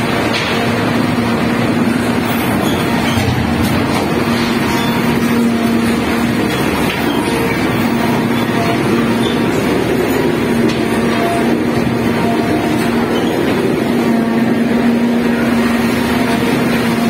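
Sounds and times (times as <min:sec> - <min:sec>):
heavy diesel machinery drone: 0:00.0 - 0:17.0.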